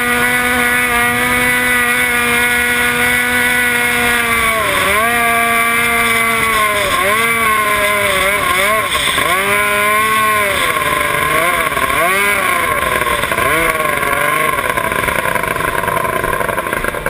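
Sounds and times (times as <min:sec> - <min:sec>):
outboard engine running: 0:00.0 - 0:17.0.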